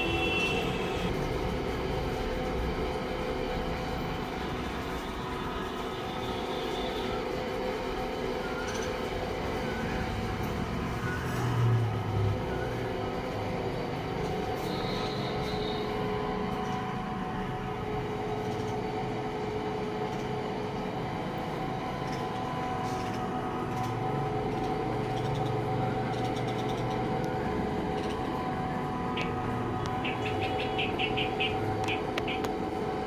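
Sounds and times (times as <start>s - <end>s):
machine hum with held tones: 0.0s - 33.0s.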